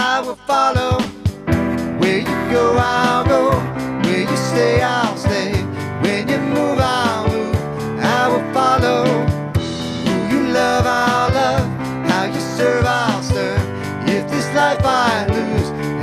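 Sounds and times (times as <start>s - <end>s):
person singing: 0.0s - 1.4s, 2.0s - 16.0s
instrumental accompaniment: 0.0s - 16.0s.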